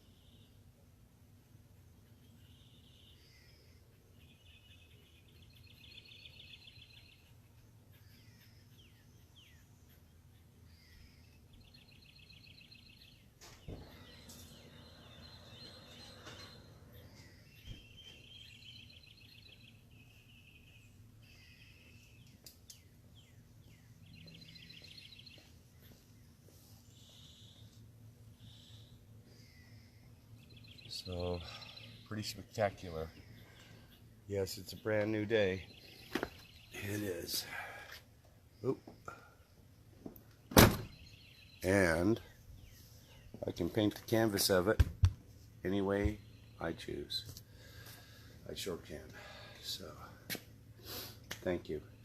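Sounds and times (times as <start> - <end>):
steady low hum: 0.0 - 52.0
birds trilling: 1.8 - 44.8, 45.6 - 52.0
down-slurred bird chirps: 2.0 - 39.3, 40.3 - 44.8, 45.6 - 50.1.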